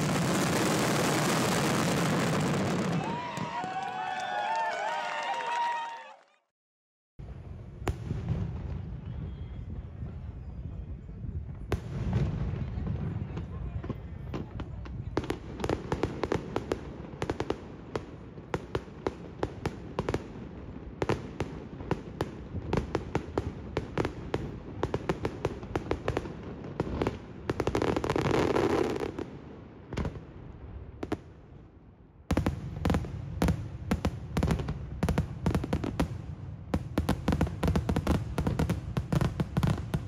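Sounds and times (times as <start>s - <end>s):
fireworks bursts and bangs: 0.0s - 4.1s, 7.3s - 31.4s, 32.3s - 40.0s.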